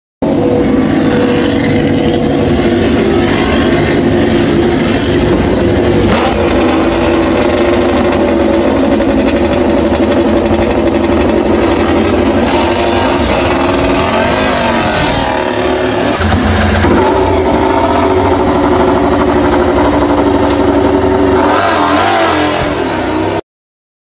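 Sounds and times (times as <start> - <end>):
motorcycle engines idling: 0.2 - 23.4.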